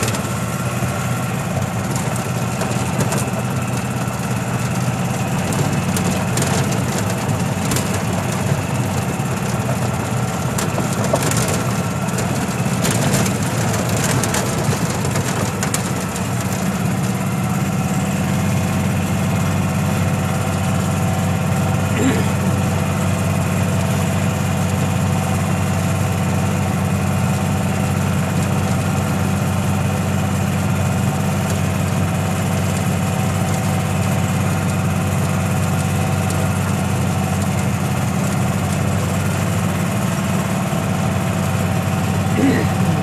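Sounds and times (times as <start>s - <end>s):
machine drone with low hum: 0.0s - 43.0s.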